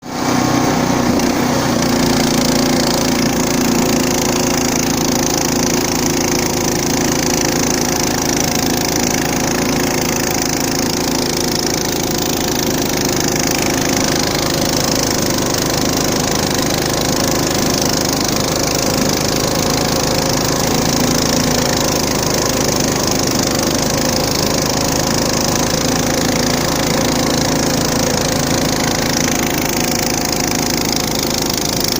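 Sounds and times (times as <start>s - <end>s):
small engine running steadily: 0.0s - 31.9s.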